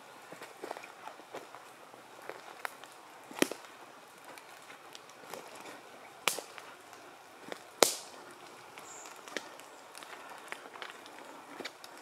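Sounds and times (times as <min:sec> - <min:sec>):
footsteps crunching on forest floor: 0:00.0 - 0:12.0
twigs snapping underfoot: 0:02.2 - 0:12.0.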